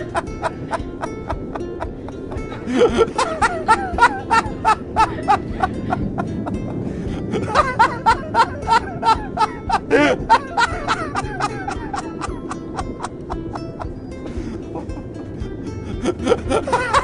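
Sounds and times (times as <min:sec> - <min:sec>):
people chuckling: 0:00.0 - 0:15.3, 0:15.9 - 0:17.0
background music: 0:00.0 - 0:17.0
man laughing heartily: 0:00.0 - 0:17.0.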